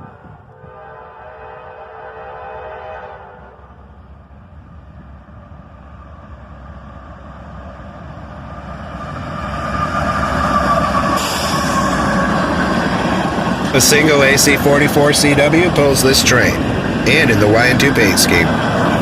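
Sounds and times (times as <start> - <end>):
diesel locomotive approaching: 0.0 - 19.0.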